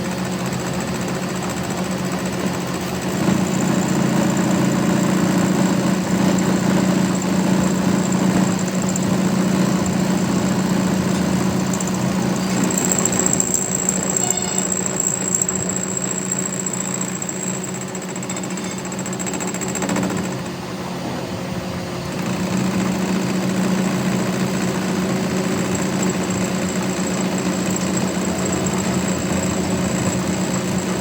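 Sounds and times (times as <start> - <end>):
workshop power machine humming: 0.0 - 31.0.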